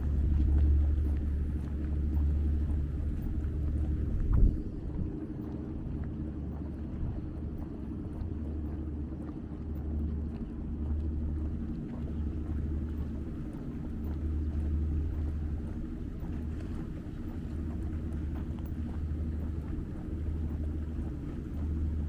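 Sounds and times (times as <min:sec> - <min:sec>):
constant hum: 0:00.0 - 0:22.0
low engine rumble: 0:00.0 - 0:22.0.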